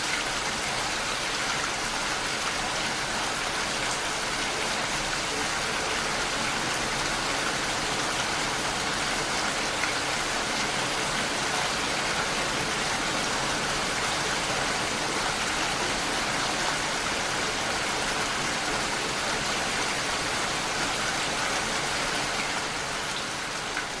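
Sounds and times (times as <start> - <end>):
steady rainfall hiss: 0.0 - 24.0.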